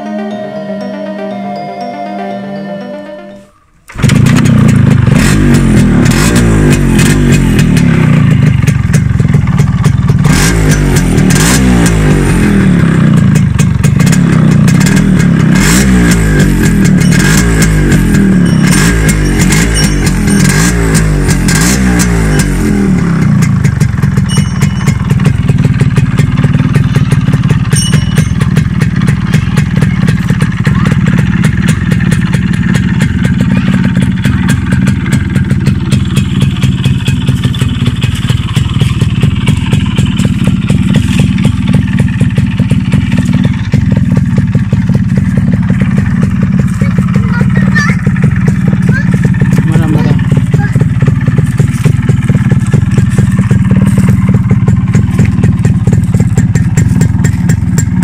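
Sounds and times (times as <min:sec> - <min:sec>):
motorcycle engine revving and idling: 0:03.9 - 0:58.0.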